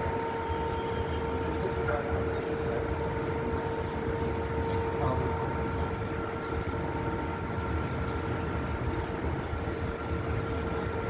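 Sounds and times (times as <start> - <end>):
steady mechanical hum: 0.0 - 11.0
street traffic rumble: 0.0 - 11.0.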